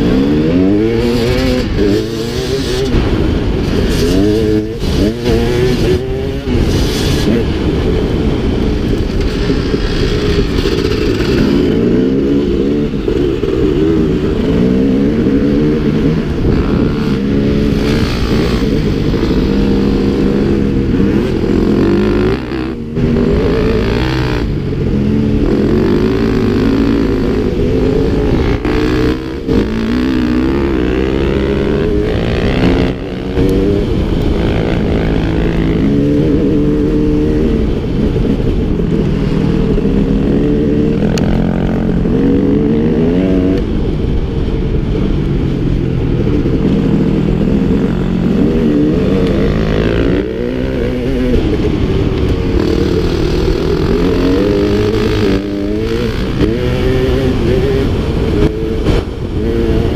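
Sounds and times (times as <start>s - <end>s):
dirt bike engine revving: 0.0s - 43.7s, 46.3s - 59.9s.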